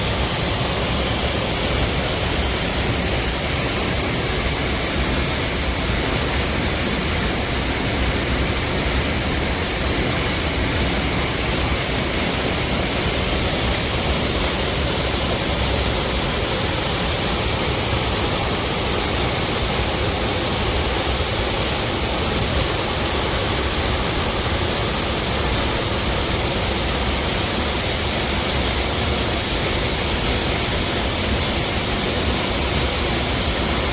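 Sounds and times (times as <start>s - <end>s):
steady rushing noise: 0.0s - 33.9s.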